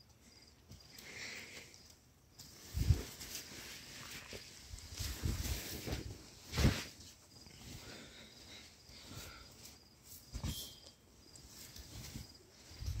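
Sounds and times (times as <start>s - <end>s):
cricket chirps: 0.0s - 13.0s.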